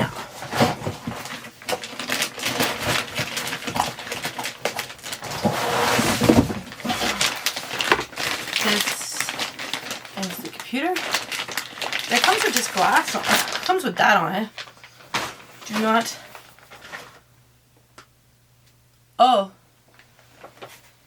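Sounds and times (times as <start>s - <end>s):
packaging rustling and crinkling: 0.0s - 17.2s, 19.9s - 21.0s.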